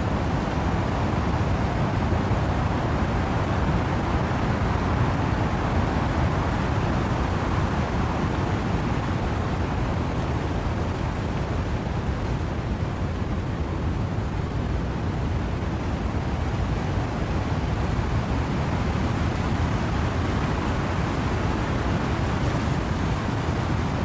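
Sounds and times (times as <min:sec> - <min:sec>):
rain: 0:00.0 - 0:24.0
wind through trees: 0:00.0 - 0:24.0.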